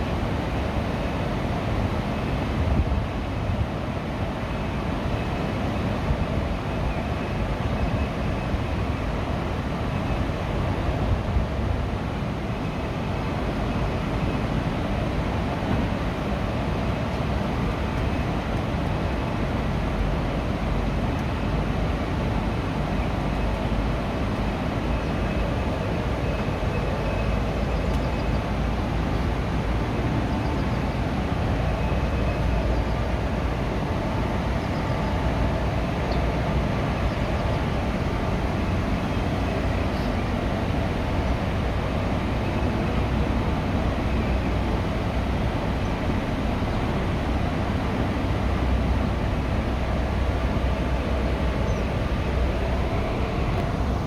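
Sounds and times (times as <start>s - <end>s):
rumble of wheels on rail: 0.0s - 54.0s.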